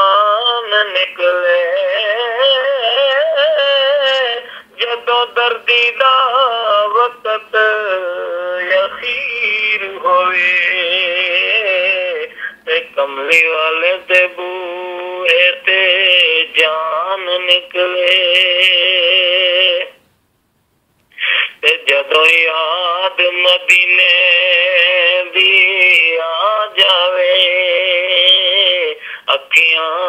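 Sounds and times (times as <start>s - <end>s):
person singing devotional song: 0.0s - 20.0s, 21.1s - 30.0s.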